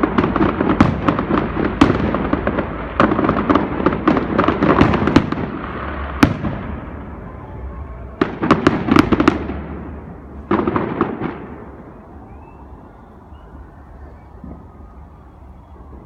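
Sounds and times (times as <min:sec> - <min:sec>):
fireworks crackling: 0:00.0 - 0:16.0
fireworks exploding: 0:00.0 - 0:16.0.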